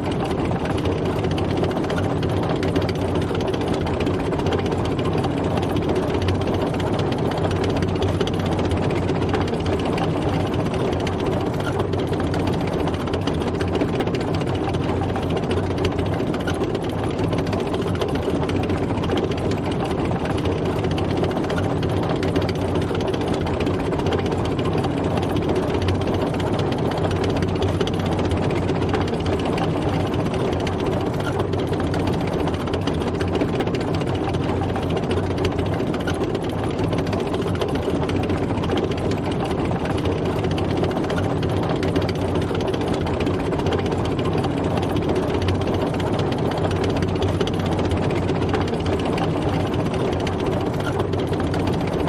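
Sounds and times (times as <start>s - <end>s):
heavy engine running: 0.0s - 52.0s
rapid track clatter: 0.0s - 52.0s.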